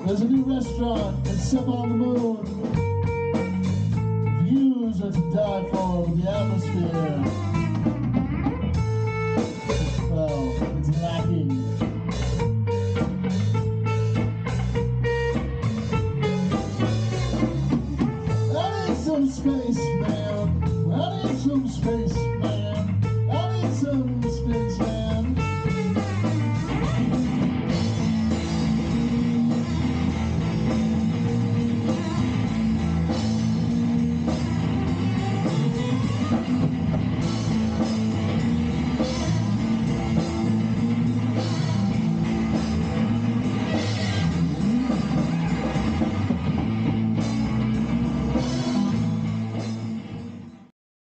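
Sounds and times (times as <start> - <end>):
electric guitar: 0.0 - 50.7
rock band instrumental: 0.0 - 50.7.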